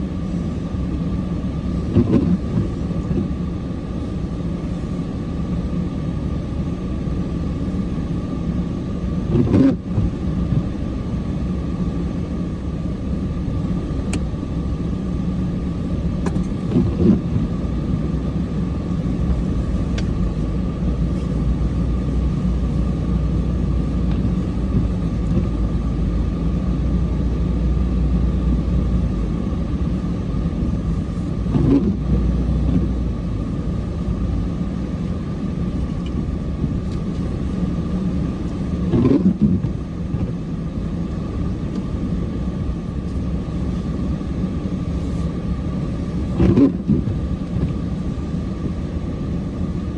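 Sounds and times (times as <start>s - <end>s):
constant whine: 0.0s - 49.9s
vehicle engine running: 0.0s - 49.9s.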